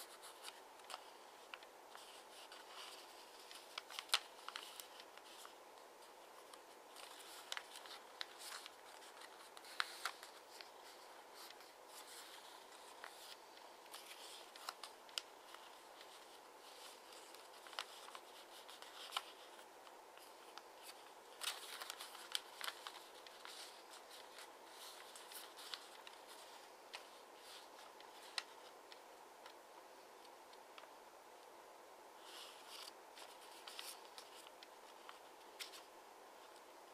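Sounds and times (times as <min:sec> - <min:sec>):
paper rustling and crinkling: 0:00.0 - 0:29.6, 0:32.2 - 0:36.9.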